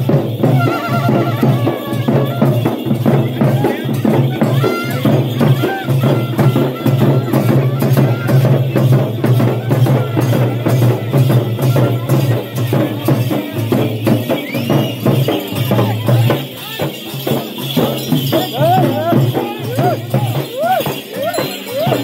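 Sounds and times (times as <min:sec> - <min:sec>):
fast folk percussion with jingles: 0:00.0 - 0:22.0.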